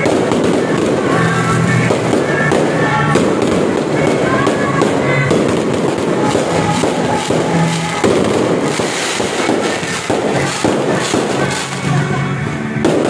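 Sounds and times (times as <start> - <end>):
fireworks crackling and bursting: 0.0 - 13.0.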